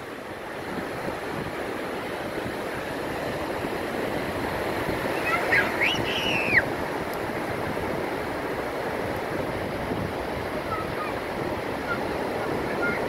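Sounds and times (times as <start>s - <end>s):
surf washing on shore: 0.0s - 13.0s
wind on microphone: 0.0s - 13.0s.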